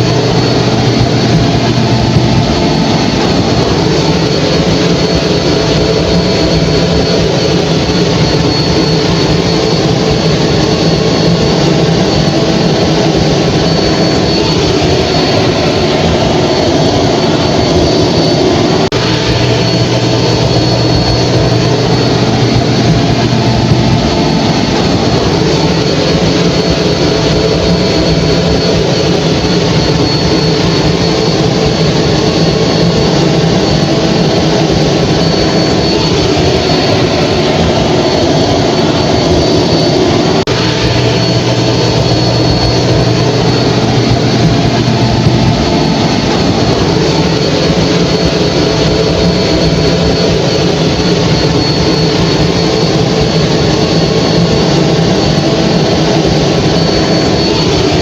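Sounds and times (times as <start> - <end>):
hair dryer running: 0.0 - 49.5.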